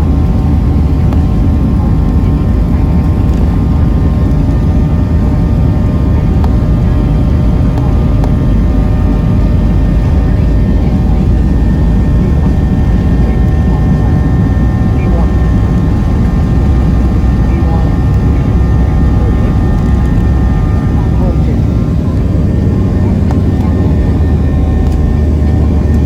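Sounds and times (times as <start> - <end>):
airliner engines rumbling: 0.0 - 26.0.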